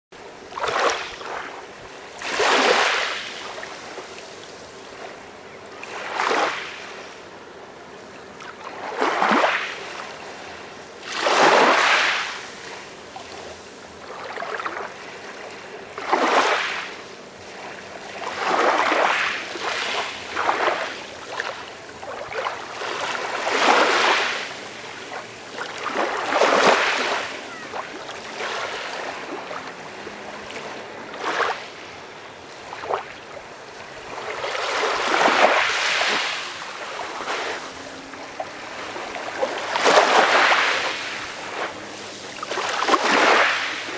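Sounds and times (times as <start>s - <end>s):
sea waves breaking gently: 0.2s - 43.9s.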